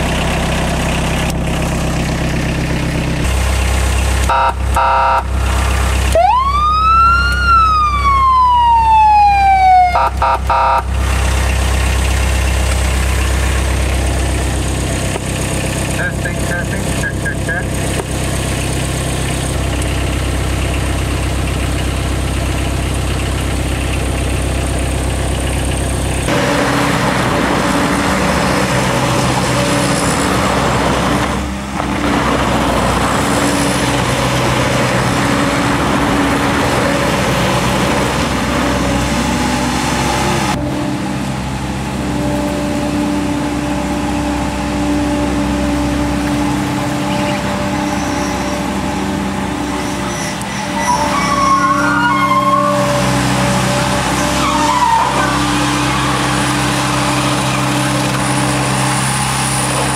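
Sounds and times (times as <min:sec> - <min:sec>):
vehicle engine running: 0:00.0 - 0:08.4, 0:09.6 - 0:51.9, 0:52.5 - 0:59.9.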